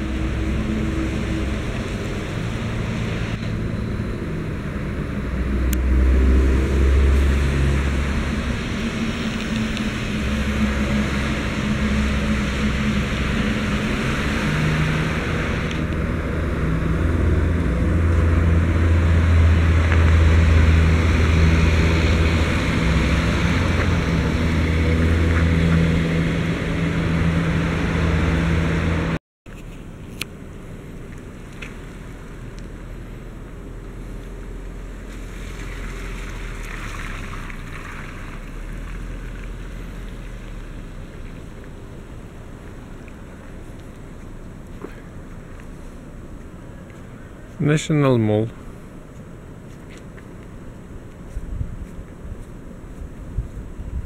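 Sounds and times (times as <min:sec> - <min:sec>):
road noise: 0:00.0 - 0:54.0
vehicle engines humming: 0:00.0 - 0:54.0.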